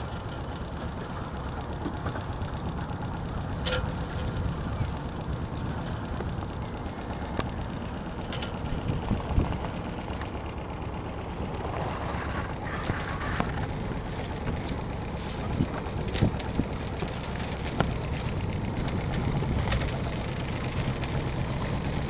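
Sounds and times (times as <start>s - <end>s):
wind buffeting microphone: 3.0s - 10.1s, 11.4s - 22.0s.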